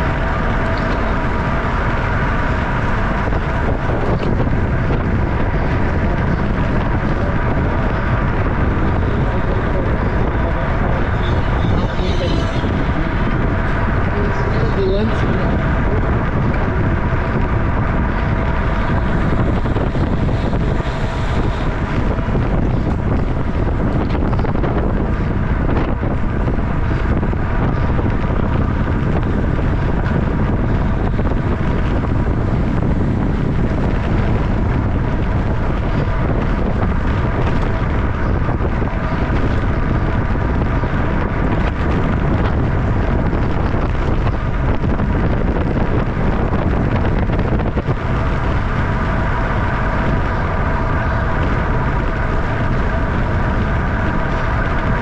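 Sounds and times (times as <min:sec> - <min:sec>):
heavy wind rush on microphone: 0:00.0 - 0:55.0.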